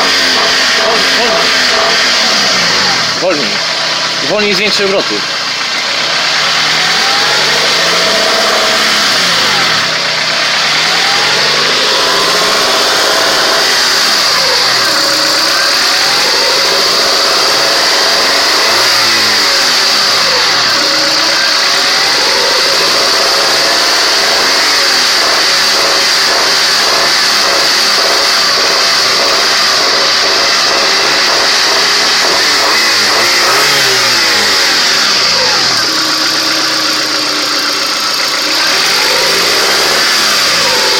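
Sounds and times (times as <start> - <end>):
car engine revving with knock: 0.0 - 40.9.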